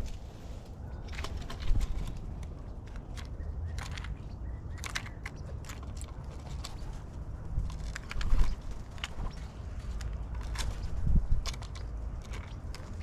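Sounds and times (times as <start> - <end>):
birds pecking on shells and wood: 0.0 - 13.0.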